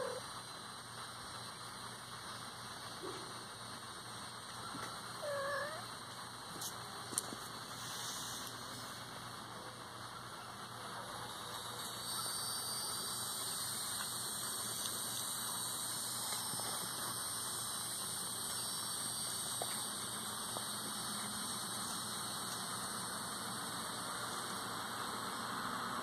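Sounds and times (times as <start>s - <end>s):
outdoor night ambience hiss: 0.0s - 26.0s.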